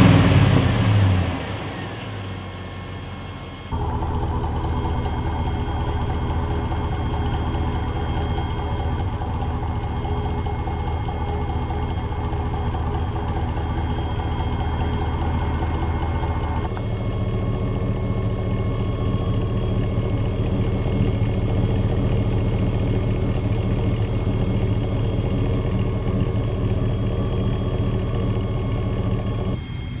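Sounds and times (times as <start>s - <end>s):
car exhaust low drone: 0.0s - 30.0s.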